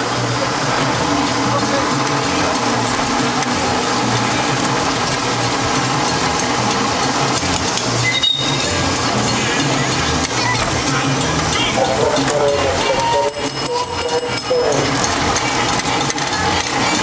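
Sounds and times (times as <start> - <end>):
miniature train wheels clattering: 0.0 - 17.0.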